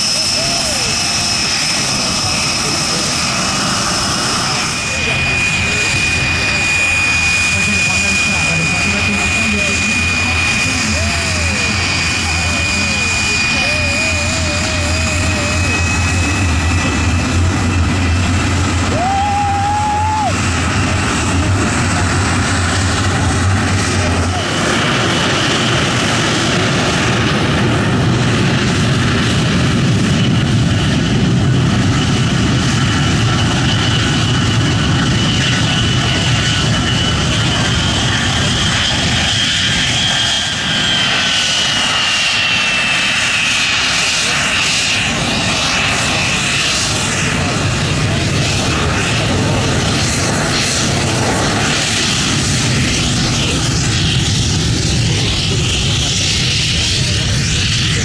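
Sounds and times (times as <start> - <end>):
jet engine rush: 0.0 - 58.0
turbine whine: 0.0 - 58.0.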